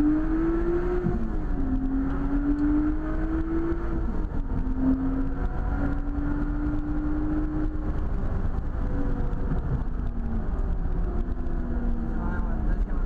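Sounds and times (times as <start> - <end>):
car engine accelerating: 0.0 - 13.0
road and wind noise: 0.0 - 13.0.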